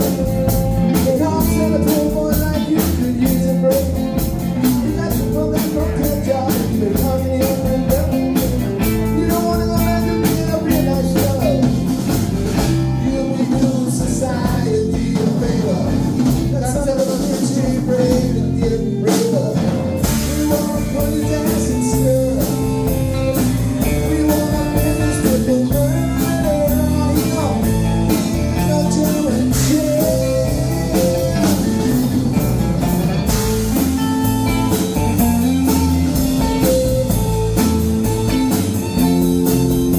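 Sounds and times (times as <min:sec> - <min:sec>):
bass: 0:00.0 - 0:39.9
drums: 0:00.0 - 0:39.9
guitar lines: 0:00.0 - 0:39.9.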